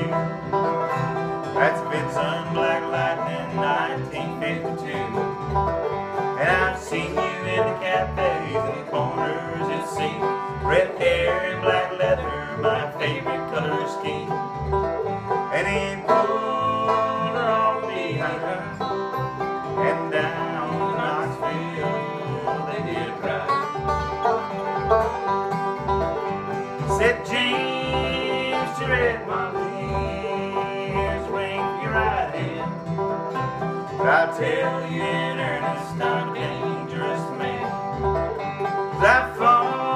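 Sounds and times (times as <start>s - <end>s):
acoustic guitar: 0.0s - 39.9s
banjo playing: 0.0s - 39.9s
plucked upright bass: 0.0s - 39.9s.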